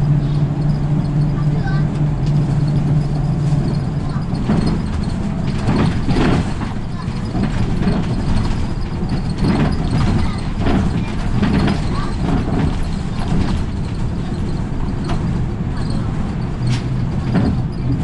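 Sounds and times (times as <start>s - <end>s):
bus engine and road noise: 0.0s - 18.0s
rattles and knocks of bus fittings: 0.0s - 18.0s.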